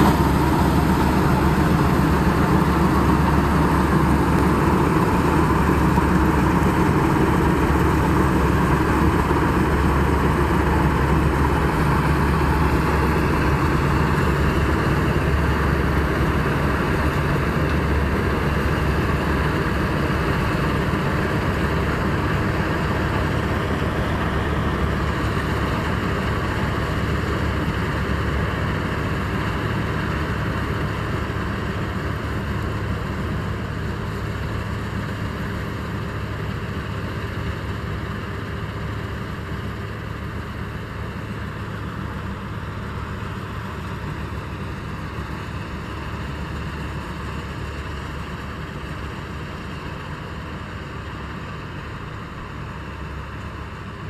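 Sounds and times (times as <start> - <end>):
combine harvester drone: 0.0 - 54.0.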